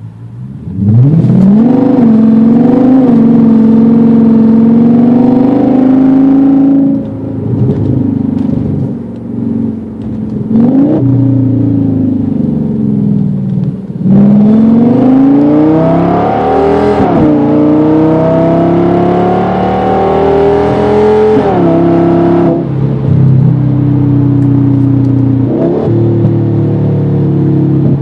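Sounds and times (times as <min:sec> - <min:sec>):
car engine exhaust revving: 0:00.5 - 0:28.0.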